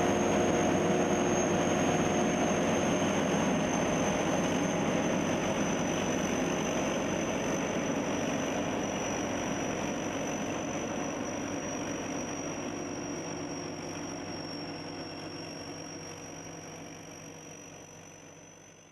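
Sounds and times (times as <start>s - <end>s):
combine harvester engine running: 0.0s - 18.2s
high-pitched whine: 0.0s - 18.9s.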